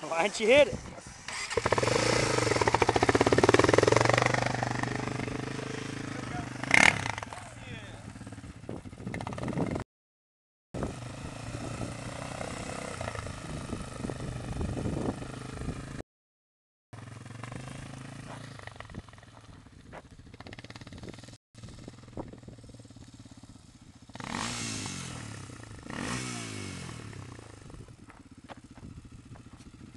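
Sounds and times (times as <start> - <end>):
atv engine revving: 0.1 - 9.8, 10.8 - 16.0, 17.0 - 29.9
atv engine running: 0.1 - 9.8, 10.8 - 16.0, 17.0 - 29.9.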